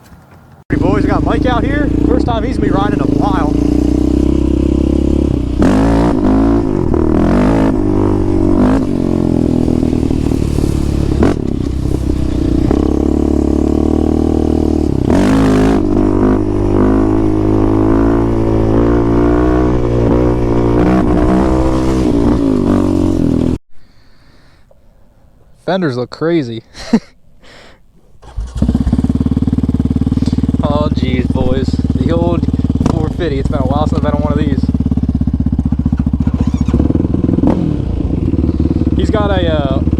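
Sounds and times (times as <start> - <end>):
quad bike engines revving: 0.7 - 23.6, 28.2 - 39.9.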